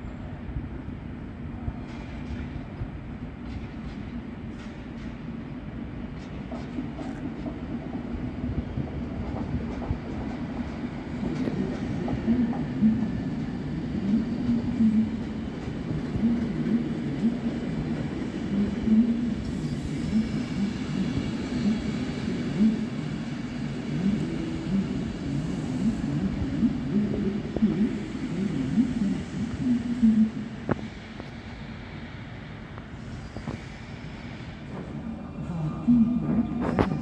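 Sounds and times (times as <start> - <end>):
train rolling past: 0.0 - 37.0.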